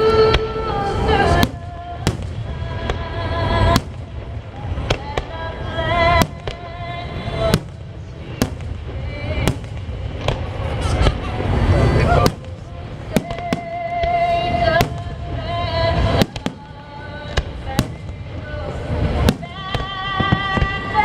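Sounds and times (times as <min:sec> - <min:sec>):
fireworks low booming: 0:00.0 - 0:21.0
fireworks sharp bangs: 0:00.0 - 0:21.0.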